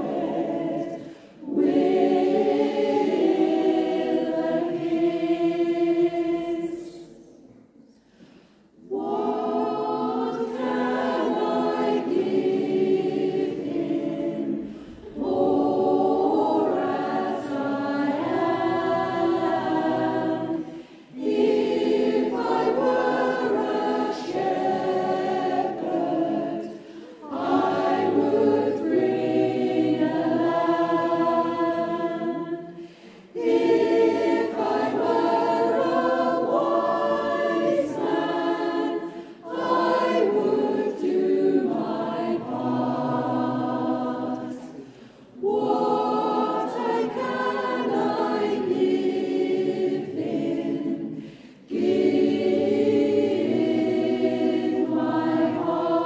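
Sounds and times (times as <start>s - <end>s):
mixed choir singing unaccompanied: 0.0s - 56.0s.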